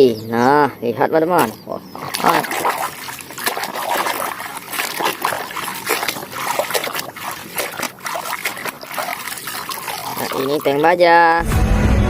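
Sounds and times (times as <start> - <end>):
water splashing and trickling: 1.3 - 11.4.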